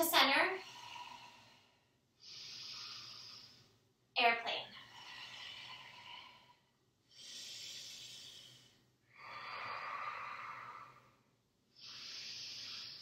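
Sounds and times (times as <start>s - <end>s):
woman breathing slowly: 0.6s - 3.9s, 4.5s - 13.0s.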